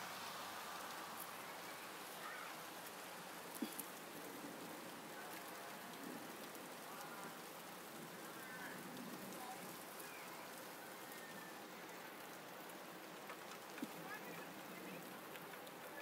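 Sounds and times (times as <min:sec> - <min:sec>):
steady rain: 0:00.0 - 0:16.0
water dripping off leaves: 0:00.0 - 0:16.0.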